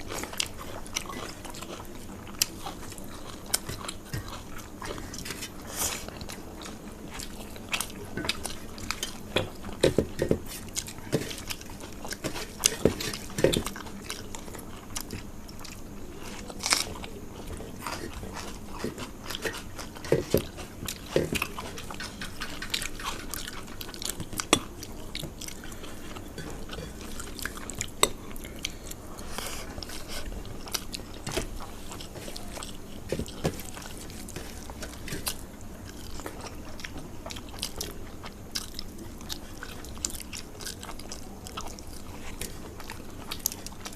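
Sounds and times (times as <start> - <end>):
chewing and biting crunches: 0.0 - 43.9.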